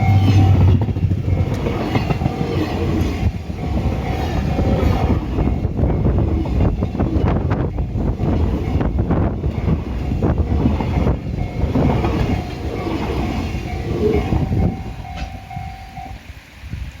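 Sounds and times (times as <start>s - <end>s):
wheels clacking over rail joints: 0.0s - 16.2s
thin steady tone: 0.0s - 16.3s
freight train rumbling past: 0.0s - 17.0s.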